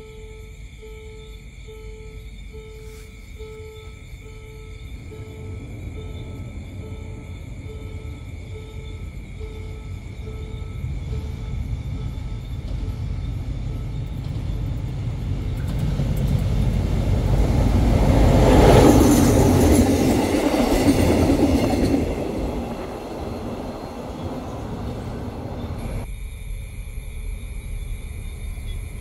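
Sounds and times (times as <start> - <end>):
diesel locomotive engine: 0.0 - 29.0
train wheels on rails: 1.8 - 26.1.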